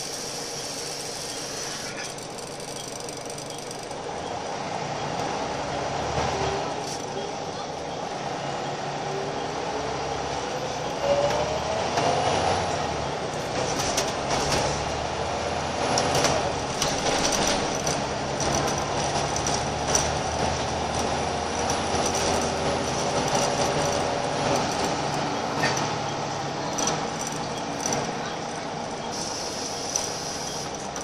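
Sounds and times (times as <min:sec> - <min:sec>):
bus diesel engine running: 0:00.0 - 0:31.0
bus interior rattles: 0:00.5 - 0:31.0.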